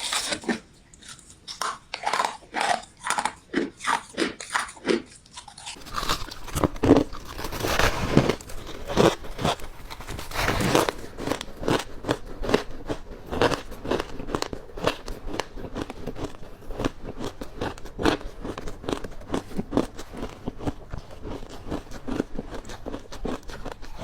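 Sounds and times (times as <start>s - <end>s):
person crunching ice: 0.0s - 24.0s.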